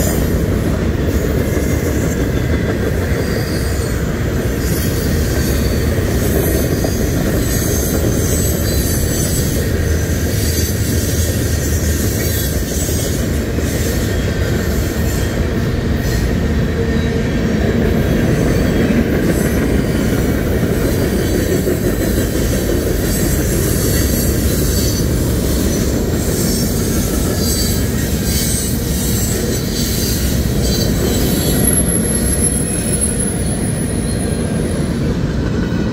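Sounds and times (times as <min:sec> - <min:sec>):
freight train wheels rumbling: 0:00.0 - 0:35.9
high wheel squeal: 0:01.0 - 0:17.1, 0:18.3 - 0:35.3.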